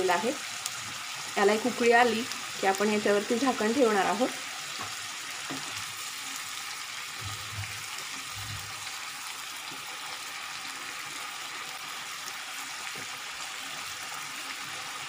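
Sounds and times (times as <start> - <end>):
gravy sizzling in a pan: 0.0 - 15.0.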